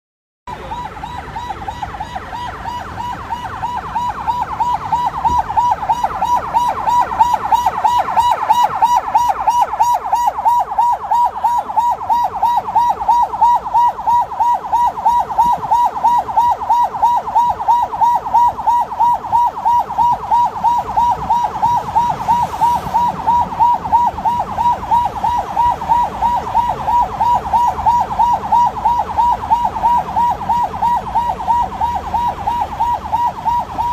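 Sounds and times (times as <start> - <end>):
ambulance siren warbling: 0.5 - 33.9
low road noise: 0.5 - 33.9.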